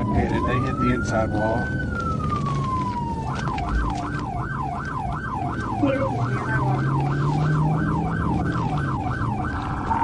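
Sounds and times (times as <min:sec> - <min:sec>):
low engine hum: 0:00.0 - 0:10.0
police siren yelping: 0:00.0 - 0:10.0.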